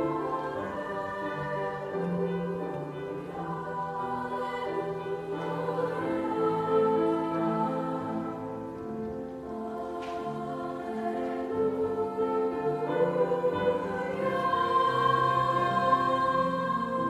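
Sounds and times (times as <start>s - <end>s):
girls' choir singing chords: 0.0s - 17.0s.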